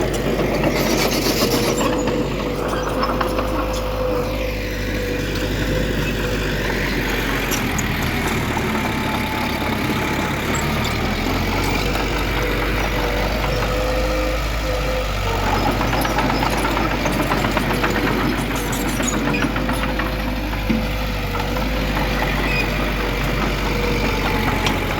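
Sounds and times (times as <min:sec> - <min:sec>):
diesel engine rumbling with whine: 0:00.0 - 0:24.9.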